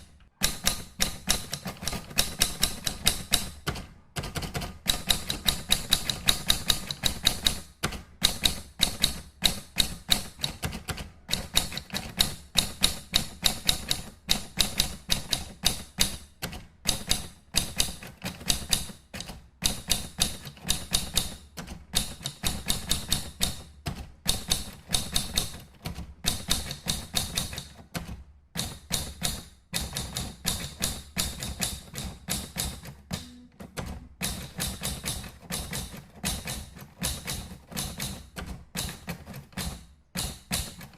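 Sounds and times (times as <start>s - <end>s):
keyboard typing: 0.4s - 15.4s, 16.4s - 40.9s.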